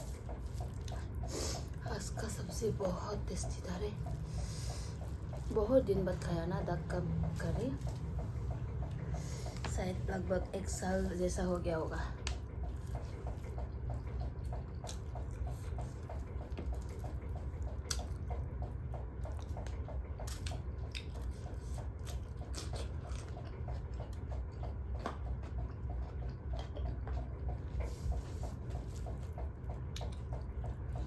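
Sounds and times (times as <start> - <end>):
chewing and wet mouth noises: 0.0 - 9.8, 10.7 - 31.0
steady low hum: 0.0 - 31.0.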